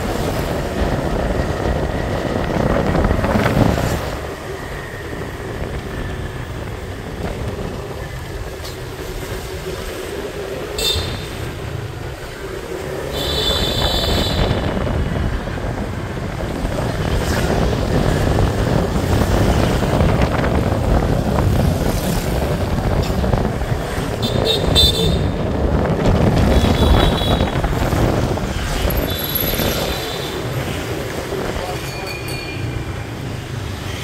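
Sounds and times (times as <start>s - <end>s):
scooter engine and road rumble: 0.0s - 34.0s.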